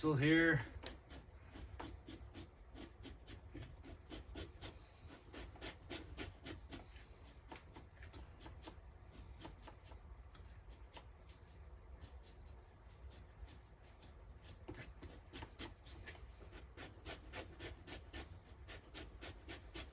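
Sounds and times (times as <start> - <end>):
knife scraping a pelt: 0.6 - 10.0, 10.6 - 19.9.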